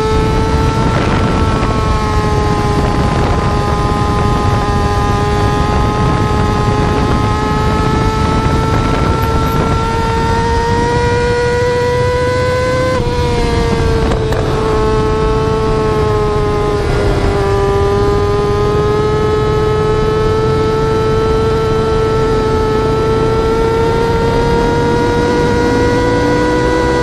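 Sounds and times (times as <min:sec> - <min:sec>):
motorcycle engine at high revs: 0:00.0 - 0:27.0
wind and road noise: 0:00.0 - 0:27.0.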